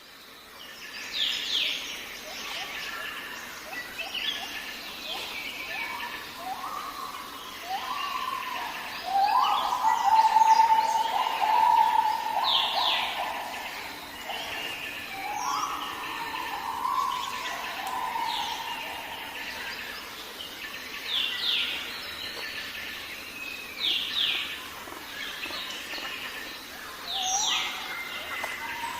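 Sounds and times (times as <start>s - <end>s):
faint steady hiss: 0.0s - 28.9s.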